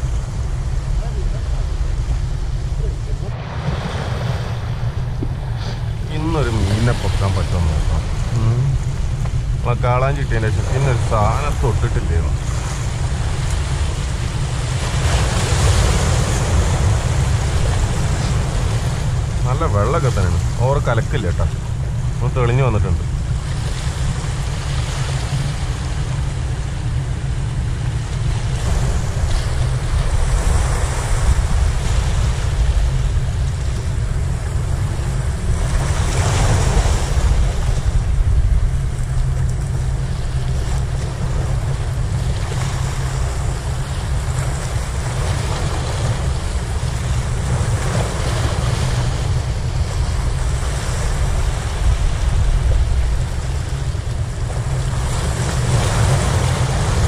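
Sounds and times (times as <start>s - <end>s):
waves breaking against rocks: 0.0s - 57.0s
wind rumble on microphone: 0.0s - 57.0s.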